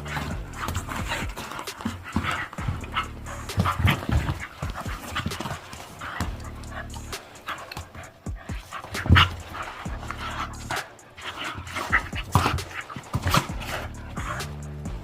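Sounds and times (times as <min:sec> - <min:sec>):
dogs grunting: 0:00.0 - 0:15.0
dogs panting: 0:00.0 - 0:15.0.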